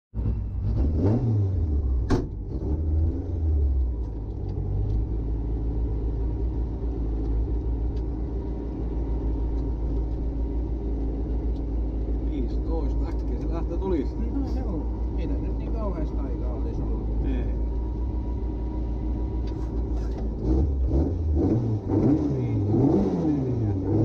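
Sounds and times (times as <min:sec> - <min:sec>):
car engine revving and idling: 0:00.1 - 0:24.0.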